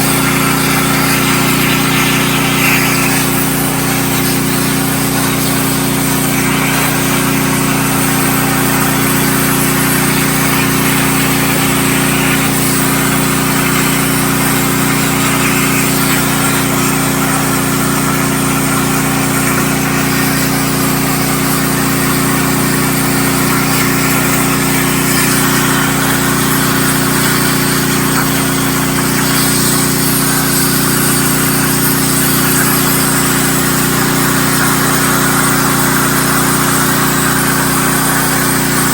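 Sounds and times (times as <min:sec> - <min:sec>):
generator engine drone: 0:00.0 - 0:38.9
plasma cutter hissing: 0:00.0 - 0:38.9.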